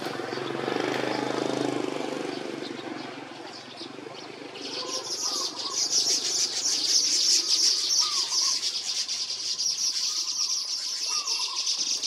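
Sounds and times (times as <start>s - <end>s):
birds chattering: 0.0s - 12.0s.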